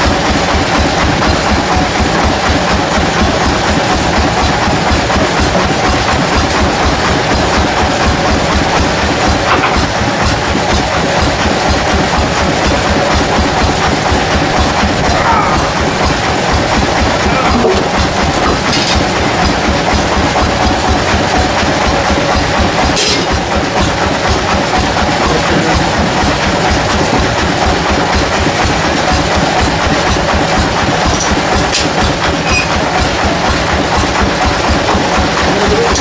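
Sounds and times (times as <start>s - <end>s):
sawmill machinery running: 0.0s - 36.0s.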